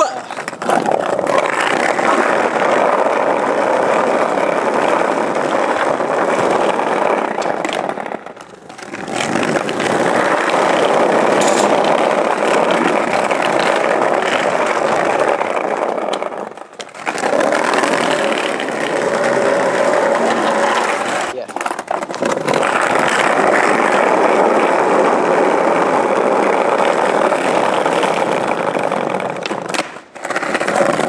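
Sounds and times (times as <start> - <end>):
skateboard wheels rolling on bricks: 0.0 - 31.0.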